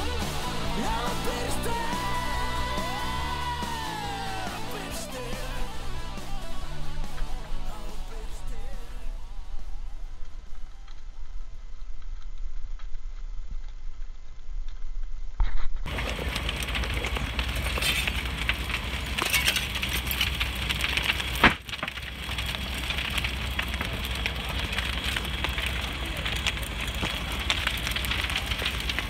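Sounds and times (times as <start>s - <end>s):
house fire roaring and crackling: 0.0s - 12.2s, 15.8s - 29.0s.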